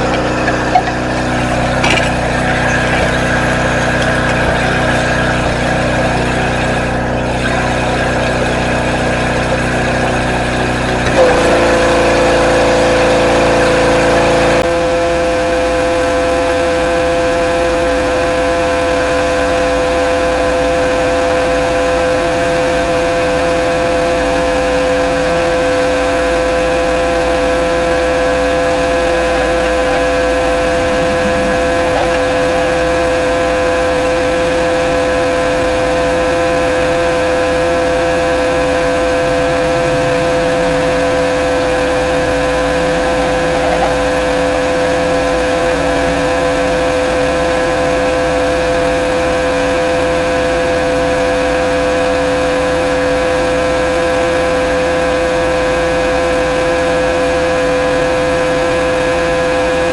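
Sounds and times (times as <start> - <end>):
steady whine: 0.0 - 14.6, 19.7 - 59.9.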